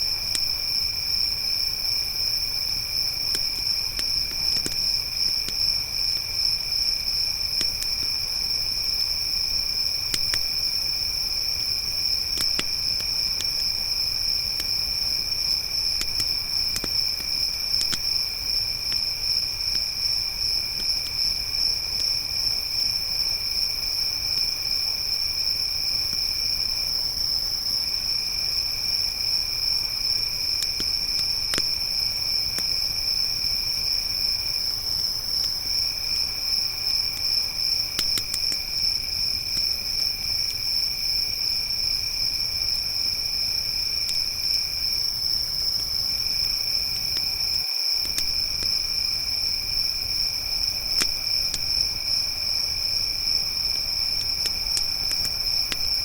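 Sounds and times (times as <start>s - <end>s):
campfire crackling and popping: 0.0s - 56.0s
lower cricket trill: 0.0s - 56.0s.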